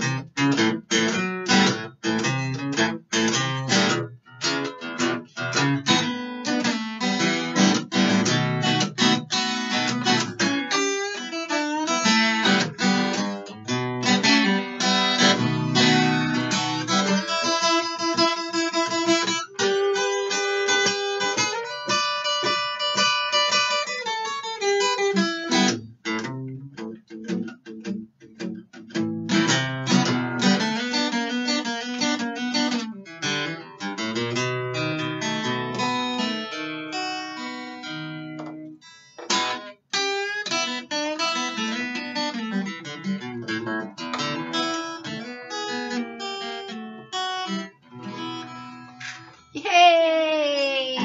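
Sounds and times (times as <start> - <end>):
acoustic blues guitar: 0.0 - 51.0.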